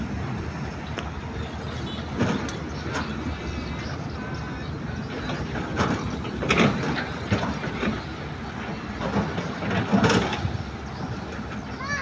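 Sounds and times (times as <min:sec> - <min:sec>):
excavator engine rumble: 0:00.0 - 0:12.0.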